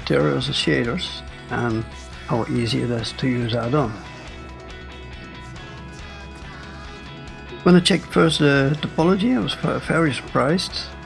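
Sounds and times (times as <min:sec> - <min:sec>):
plucked guitar: 0:00.0 - 0:11.0
quiet background music: 0:00.0 - 0:11.0.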